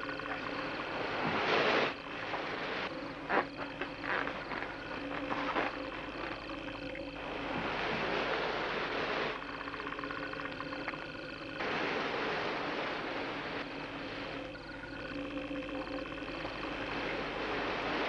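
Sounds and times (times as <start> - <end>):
crackling buzzing texture: 0.0 - 18.0
steady drone: 0.0 - 18.0.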